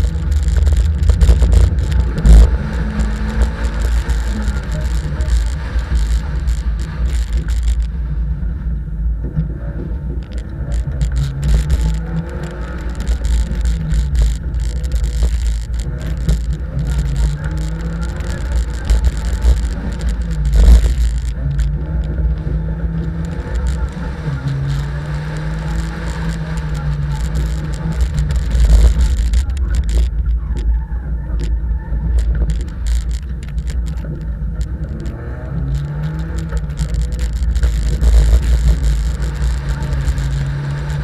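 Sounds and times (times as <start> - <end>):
low rumble of road and wind: 0.0 - 41.0
rally car engine revving: 0.0 - 41.0.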